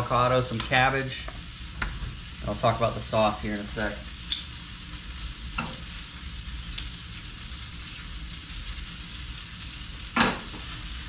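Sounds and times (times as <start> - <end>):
oil sizzling in frying pan: 0.0 - 11.0.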